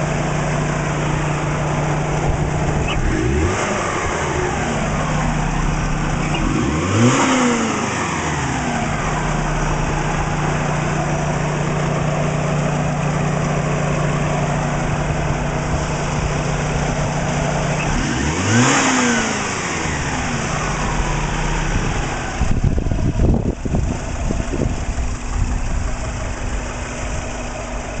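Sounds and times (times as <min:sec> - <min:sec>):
car engine idling: 0:00.0 - 0:28.0
engine throttle blips: 0:00.0 - 0:28.0
engine ticking: 0:00.0 - 0:28.0.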